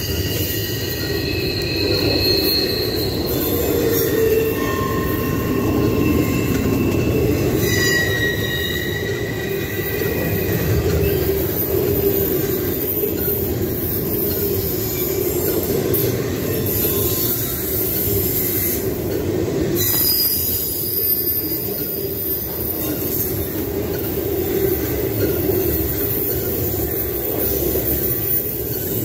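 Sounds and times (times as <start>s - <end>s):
freight train wheels rumbling: 0.0s - 29.0s
high wheel squeals: 0.0s - 29.0s.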